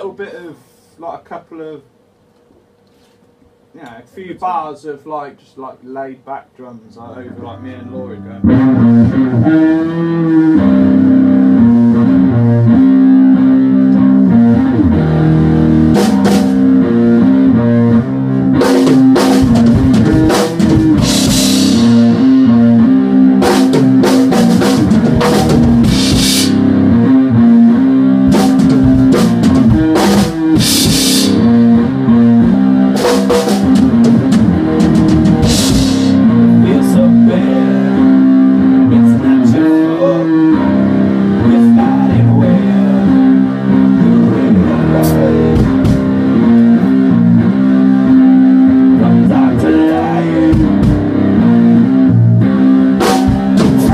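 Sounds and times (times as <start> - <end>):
live band playing: 8.1 - 53.9.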